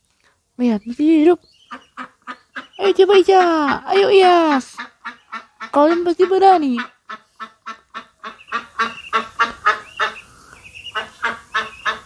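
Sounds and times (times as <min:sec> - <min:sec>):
ducklings peeping: 0:00.6 - 0:12.0
ducks quacking: 0:01.6 - 0:12.0.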